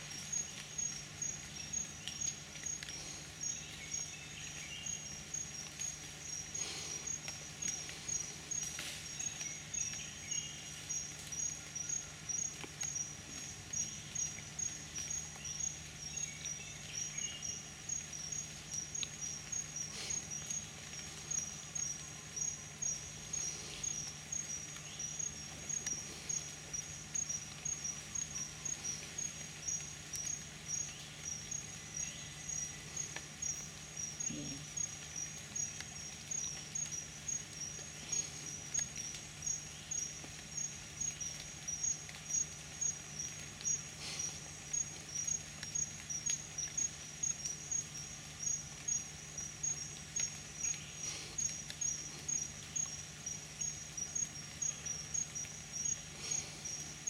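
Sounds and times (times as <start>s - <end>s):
insect pulsing chirp: 0.0s - 57.0s.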